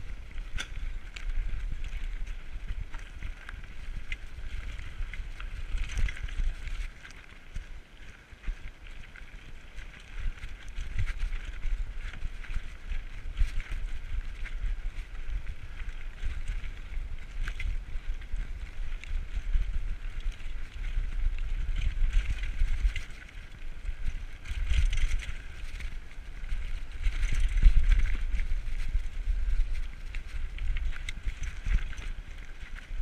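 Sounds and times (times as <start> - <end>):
bike rattling and clicking: 0.0 - 33.0
wind buffeting helmet camera: 0.0 - 33.0.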